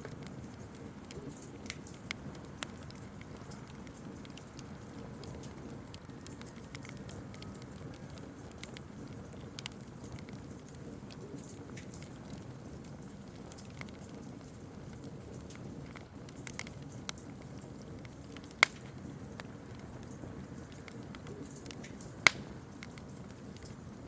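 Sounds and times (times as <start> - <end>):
campfire crackling: 0.0 - 24.0
loud fire pops: 0.0 - 24.0.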